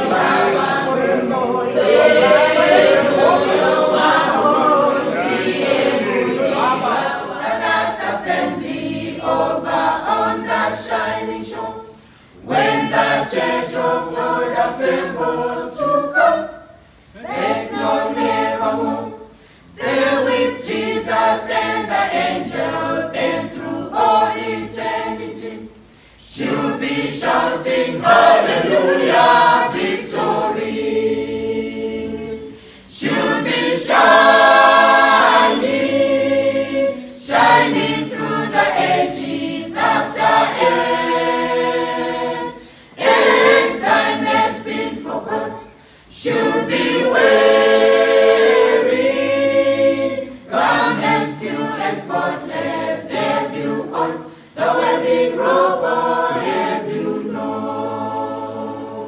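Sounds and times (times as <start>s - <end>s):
mixed choir singing a cappella: 0.0s - 59.0s.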